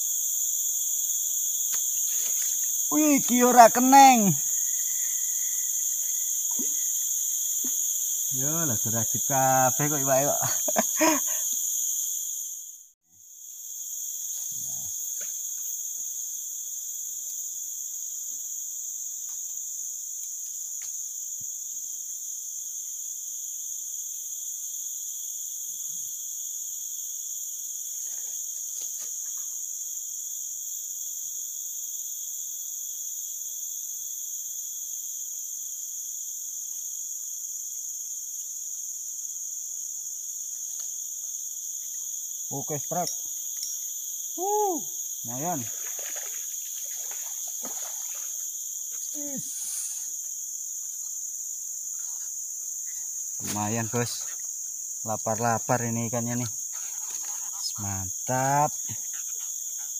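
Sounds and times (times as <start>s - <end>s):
insects chorus: 0.0s - 59.9s.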